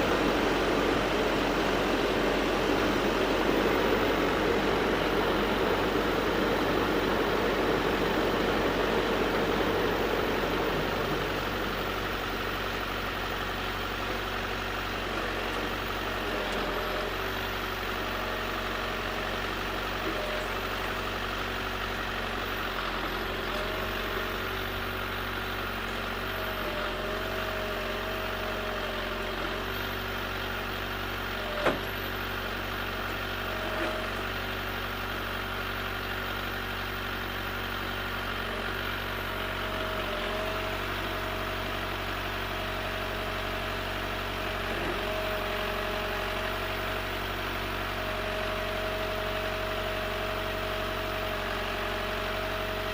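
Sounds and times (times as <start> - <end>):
backhoe engine running: 0.0 - 52.9.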